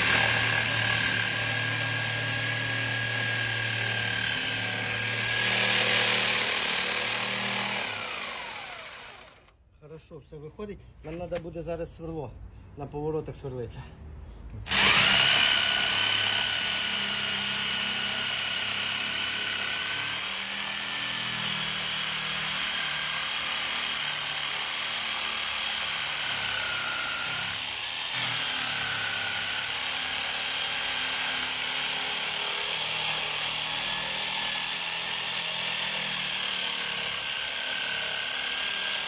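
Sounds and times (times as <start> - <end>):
cordless drill whining: 0.0 - 9.6, 14.7 - 39.0.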